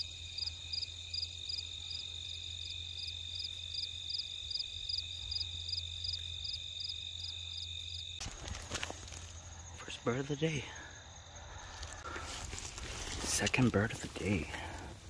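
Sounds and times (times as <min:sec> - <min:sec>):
insect chirping evenly: 0:00.0 - 0:15.0
insects trilling: 0:00.0 - 0:15.0.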